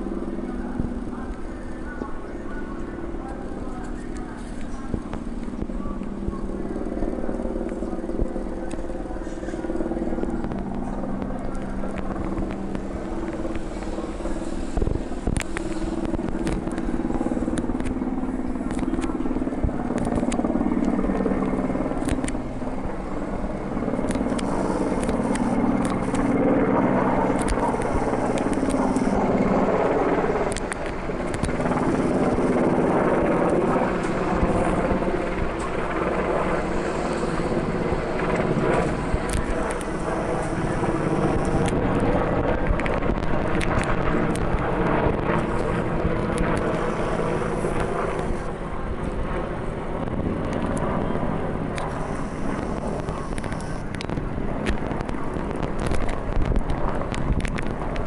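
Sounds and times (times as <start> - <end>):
helicopter engines droning: 0.0 - 58.0
helicopter rotor chopping: 0.0 - 58.0.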